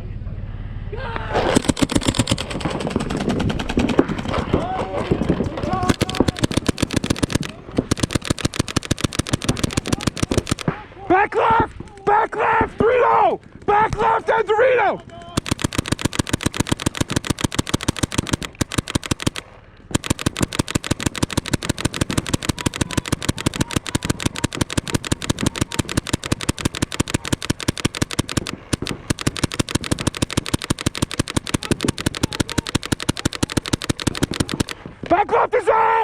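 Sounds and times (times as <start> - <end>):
paintball markers firing: 1.4 - 10.8, 11.4 - 35.2.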